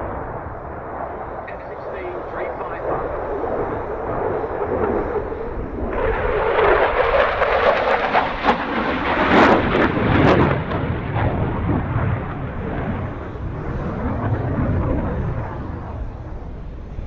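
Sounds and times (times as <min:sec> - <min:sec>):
jet roar flying past: 0:00.0 - 0:17.0.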